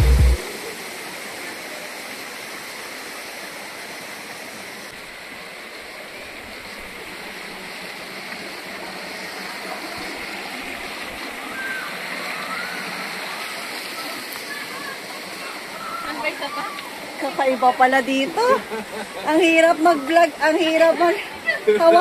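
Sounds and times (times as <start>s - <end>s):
stream rushing over stones: 0.0s - 22.0s.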